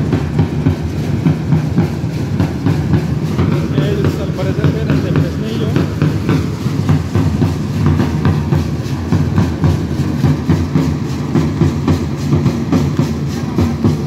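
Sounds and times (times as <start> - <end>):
hand drums beating fast rhythm: 0.0 - 14.0.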